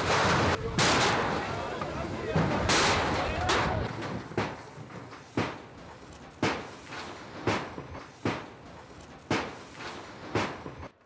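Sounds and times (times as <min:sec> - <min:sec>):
sharp bangs: 0:00.0 - 0:10.9.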